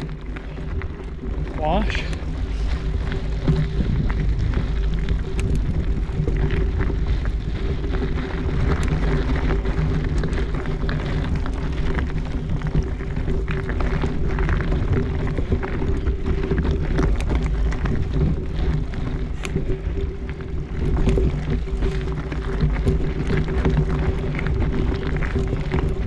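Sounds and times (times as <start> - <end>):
bike clicks and rattles: 0.0 - 26.0
bike riding rumble: 0.0 - 26.0.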